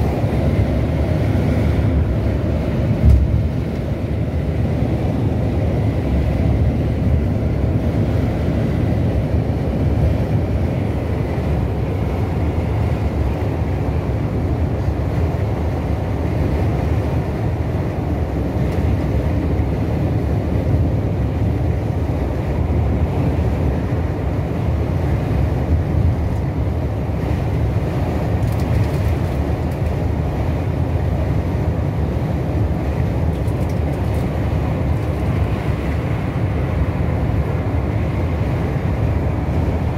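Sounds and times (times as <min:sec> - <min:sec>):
coach engine and tyre rumble: 0:00.0 - 0:39.9.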